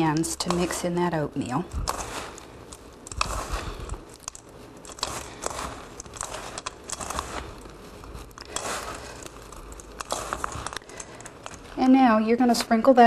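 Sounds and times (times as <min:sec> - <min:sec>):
hands mixing crunchy topping: 0:00.0 - 0:12.8.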